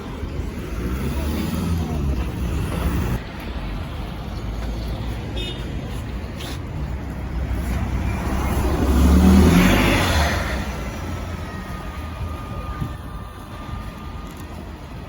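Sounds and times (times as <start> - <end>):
bus drivetrain rumbling: 0.0 - 15.0.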